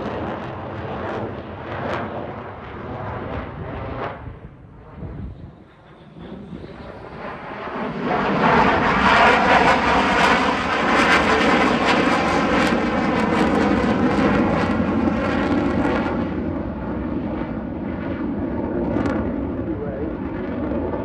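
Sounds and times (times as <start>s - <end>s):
jet fighter passing: 0.0s - 21.0s.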